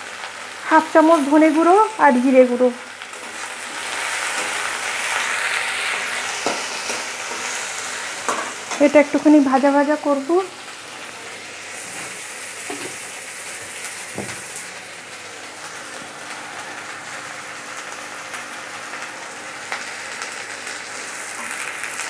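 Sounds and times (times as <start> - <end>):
potatoes sizzling in hot oil: 0.0 - 22.0.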